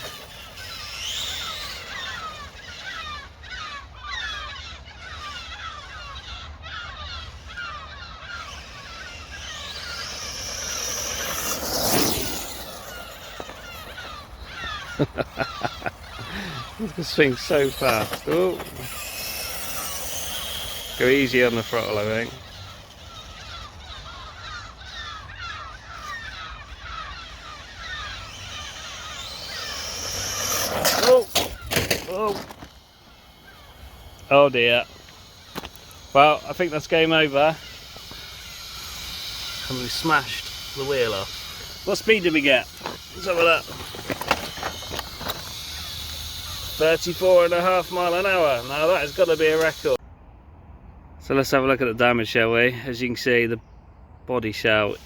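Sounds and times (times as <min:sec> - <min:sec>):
rc truck motor whining: 0:00.0 - 0:50.0, 0:54.7 - 0:55.0
steady low hum: 0:00.0 - 0:51.2.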